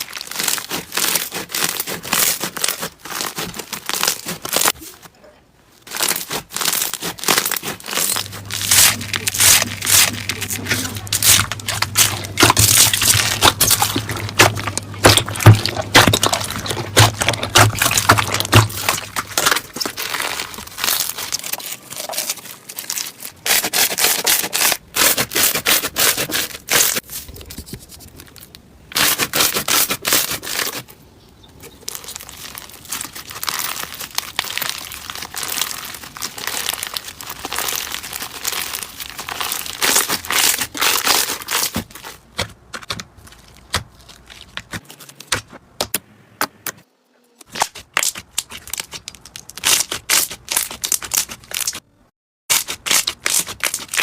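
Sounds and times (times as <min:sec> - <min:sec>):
slime crackling and crunching: 0:00.0 - 0:05.0, 0:05.8 - 0:27.2, 0:28.2 - 0:30.9, 0:31.6 - 0:45.6, 0:47.4 - 0:51.8, 0:52.5 - 0:54.0.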